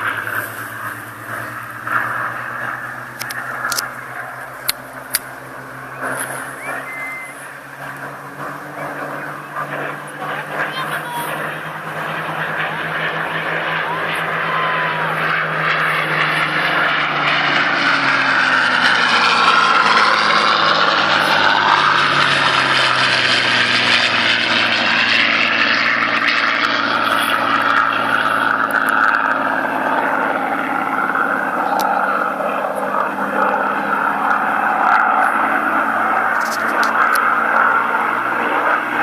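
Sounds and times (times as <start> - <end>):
propeller aircraft engines droning: 0.0 - 39.0.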